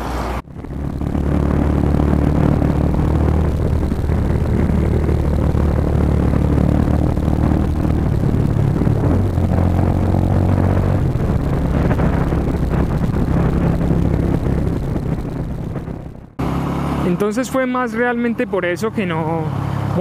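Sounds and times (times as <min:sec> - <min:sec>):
motorcycle engine running: 0:00.4 - 0:17.4.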